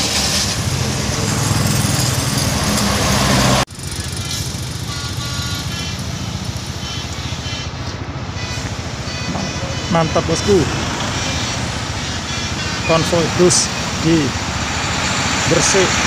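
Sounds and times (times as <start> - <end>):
bus engine running: 0.0 - 16.0
road noise: 0.0 - 16.0.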